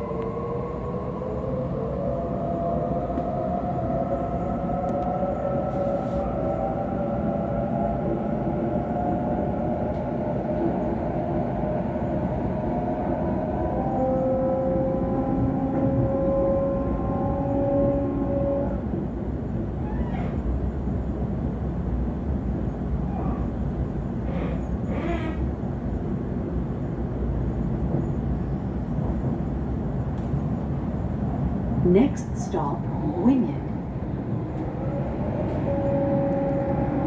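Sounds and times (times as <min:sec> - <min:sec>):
train inverter and motor whine: 0:00.0 - 0:37.0
wheels rumbling on track: 0:00.0 - 0:37.0.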